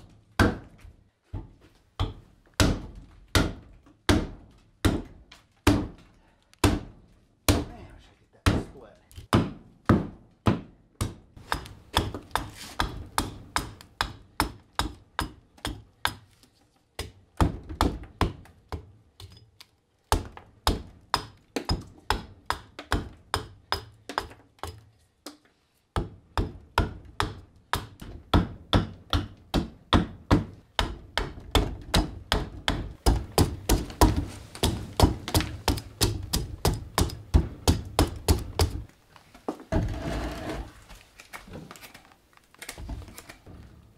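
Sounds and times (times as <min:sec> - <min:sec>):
hatchet chopping wood: 0:00.3 - 0:00.9, 0:02.0 - 0:07.7, 0:08.4 - 0:19.5, 0:20.1 - 0:38.9.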